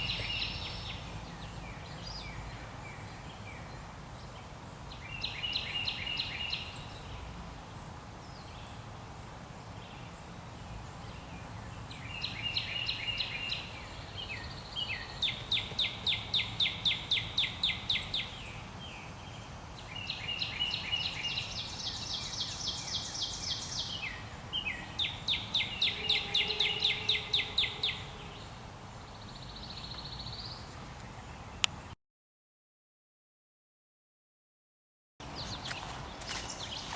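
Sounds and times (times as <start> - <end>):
birds chirping: 0.0 - 32.0, 35.2 - 36.9.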